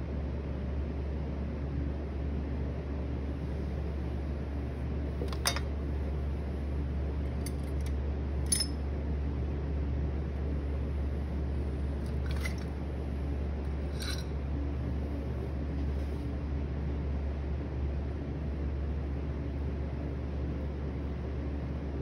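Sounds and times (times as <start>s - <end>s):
pottery wheel humming: 0.0s - 22.0s.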